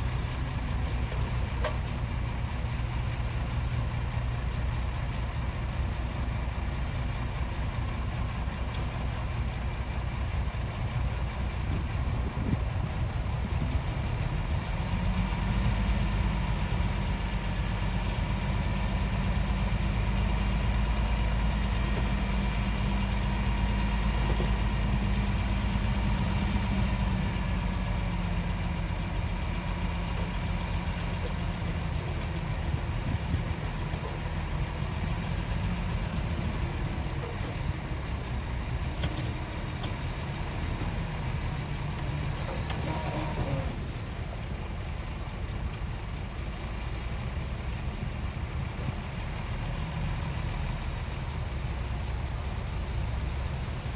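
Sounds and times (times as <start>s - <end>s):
heavy diesel machinery rumbling: 0.0s - 53.9s.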